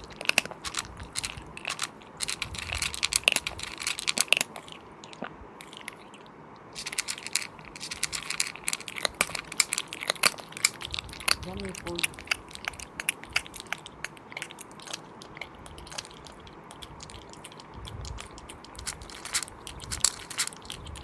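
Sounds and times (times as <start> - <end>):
crunching and chewing: 0.0 - 21.0.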